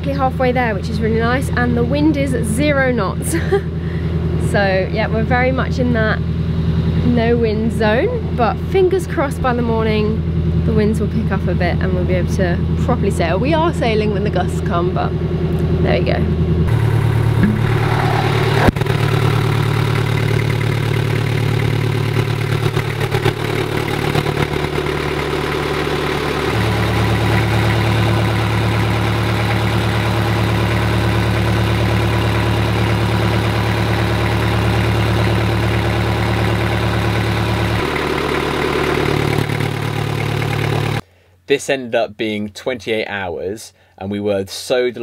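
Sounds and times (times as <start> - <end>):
boat engine running: 0.0 - 41.0.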